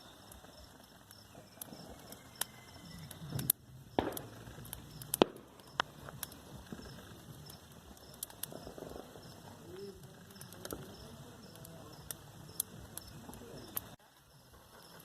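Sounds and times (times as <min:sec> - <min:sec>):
bonfire crackling and popping: 0:00.0 - 0:15.0.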